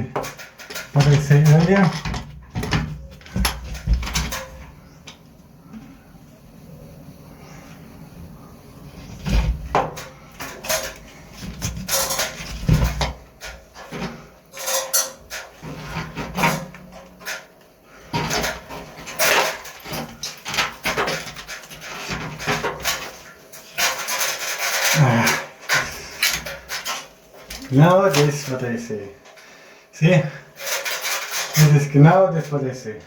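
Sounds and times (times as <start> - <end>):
scraping and rubbing on pipes: 0.0 - 6.2, 8.7 - 32.8.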